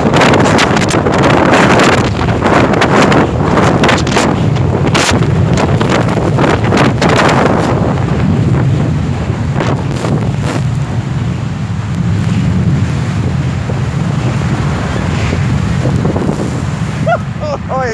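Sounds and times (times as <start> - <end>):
jet blast rushing wind: 0.0 - 17.9
jet engines roaring: 0.0 - 17.9
sand blowing: 0.0 - 17.9.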